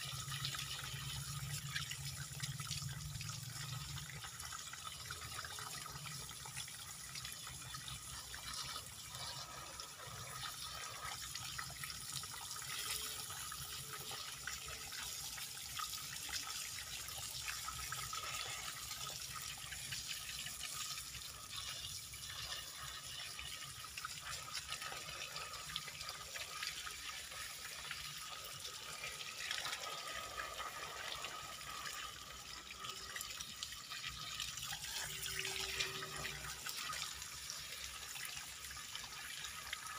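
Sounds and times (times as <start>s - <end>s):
garden hose water spraying: 4.6s - 39.9s.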